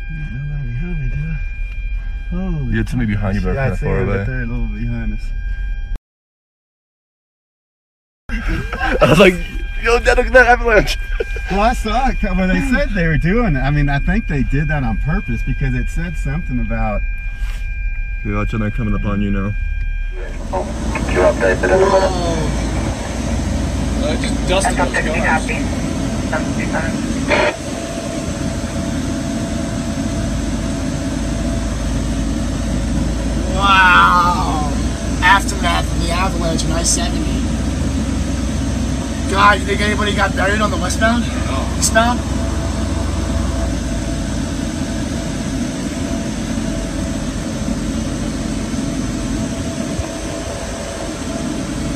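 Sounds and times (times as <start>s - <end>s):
faint steady whine: 0.0s - 6.0s, 8.3s - 51.9s
vehicle road and engine noise: 0.0s - 6.0s, 8.3s - 51.9s.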